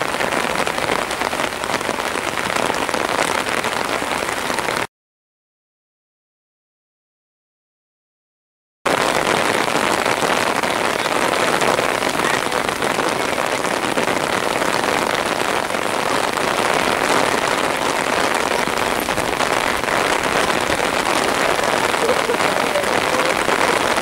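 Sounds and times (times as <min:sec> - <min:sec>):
heavy rain hissing: 0:00.0 - 0:04.9, 0:08.9 - 0:24.0.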